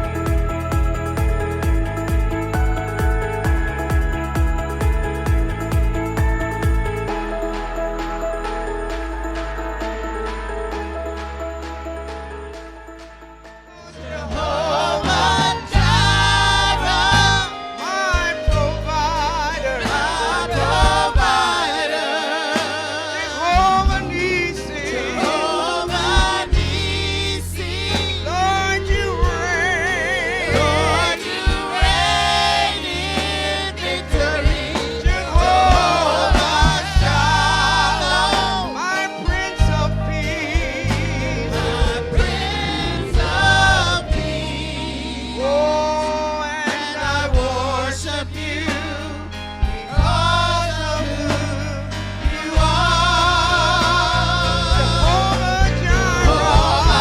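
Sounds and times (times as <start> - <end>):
band with bass line: 0.0 - 57.0
choir singing gospel: 0.0 - 57.0.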